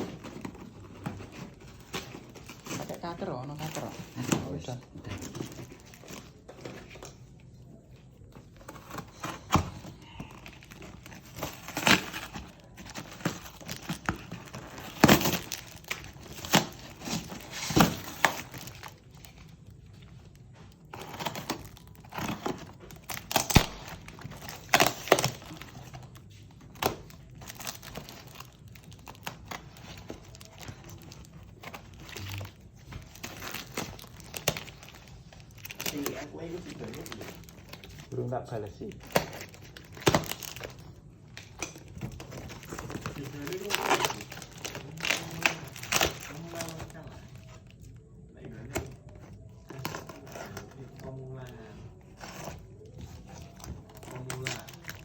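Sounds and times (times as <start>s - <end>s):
packaging crinkling and tearing: 0.0s - 55.0s.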